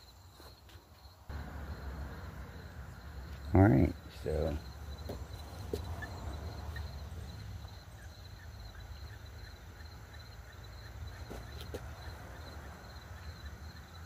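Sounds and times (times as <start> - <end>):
insects chirping: 0.0 - 14.0
low outdoor rumble: 1.3 - 14.0.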